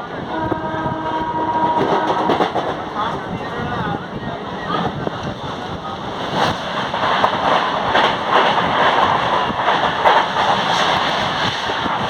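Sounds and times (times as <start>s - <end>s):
moving train rushing: 0.0s - 12.0s.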